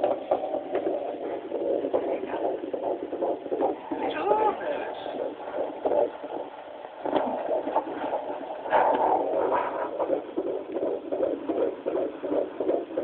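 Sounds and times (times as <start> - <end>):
fetal heartbeat on doppler speaker: 0.0 - 13.0.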